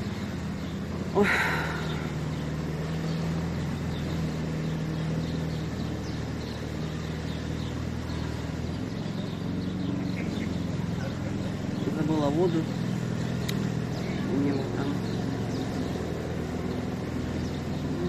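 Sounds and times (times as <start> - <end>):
faint bird chirps: 0.0 - 18.0
vehicle engine hum: 0.0 - 18.0.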